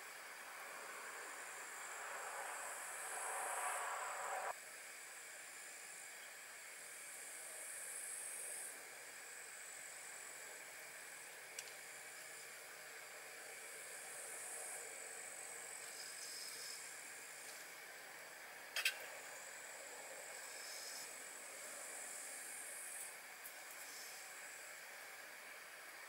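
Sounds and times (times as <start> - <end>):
camping stove burner hissing: 0.0 - 26.0
faint steady hiss: 0.0 - 26.0.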